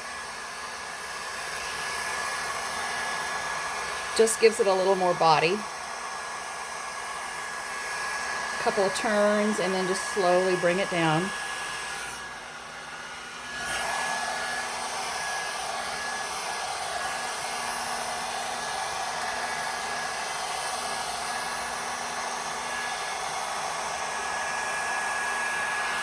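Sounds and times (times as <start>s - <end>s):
hot-air styler blowing: 0.0s - 26.0s.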